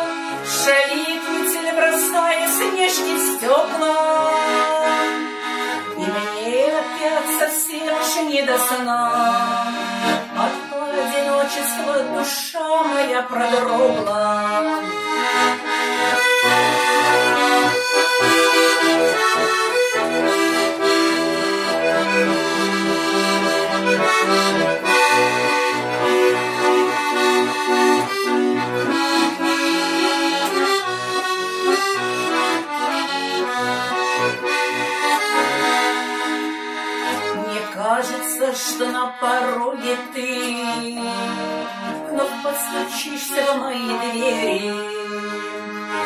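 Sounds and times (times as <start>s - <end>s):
button accordion playing: 0.0s - 46.0s.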